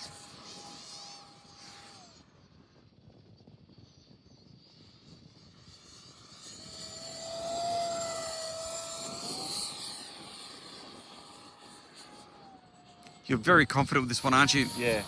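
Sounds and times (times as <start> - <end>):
model jet fan whine: 0.0 - 15.0.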